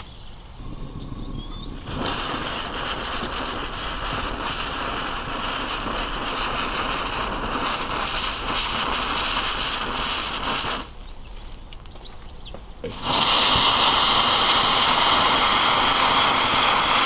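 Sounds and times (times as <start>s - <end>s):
fuse burning with spitting hiss: 0.0s - 11.0s, 12.8s - 17.0s.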